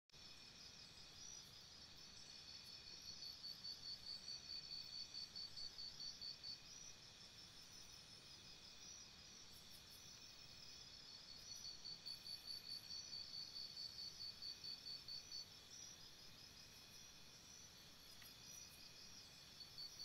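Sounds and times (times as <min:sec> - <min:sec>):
crickets chirping: 0:00.2 - 0:20.0.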